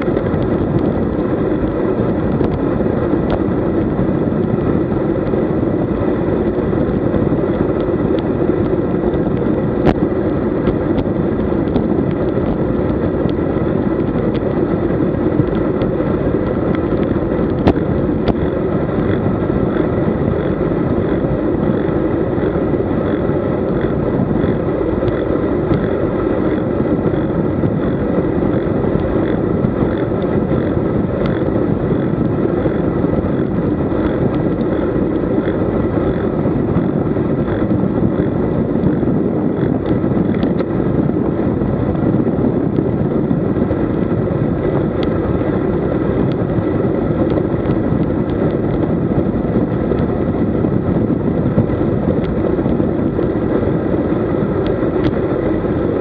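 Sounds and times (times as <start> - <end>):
tyre and road noise: 0.0 - 56.0
wind rushing over microphone: 0.0 - 56.0.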